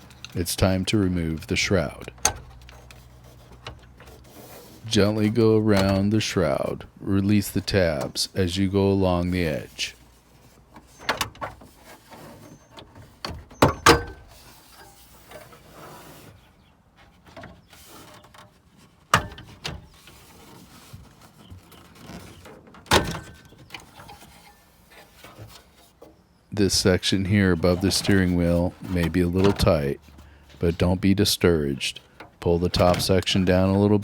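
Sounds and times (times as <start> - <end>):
plastic rubbing and scraping: 0.0 - 34.0.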